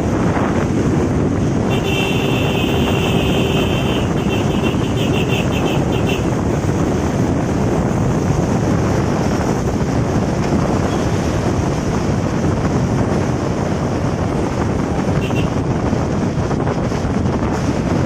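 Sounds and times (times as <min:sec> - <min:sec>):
motorcycle running: 0:00.0 - 0:18.0
wind rushing over microphone: 0:00.0 - 0:18.0.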